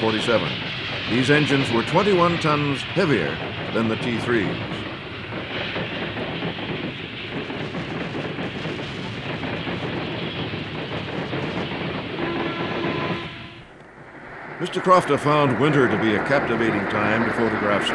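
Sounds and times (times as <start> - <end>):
steam locomotive exhaust: 0.0 - 17.9
train wheels rolling: 0.0 - 17.9.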